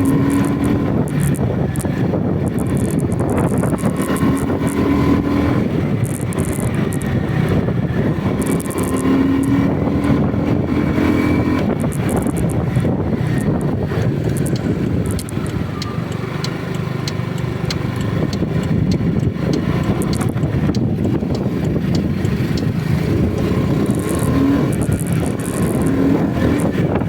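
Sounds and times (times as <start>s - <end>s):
light regular ticks: 0.0s - 7.7s, 8.4s - 10.3s, 11.5s - 27.0s
car engine and tyres on wet road: 0.0s - 27.0s.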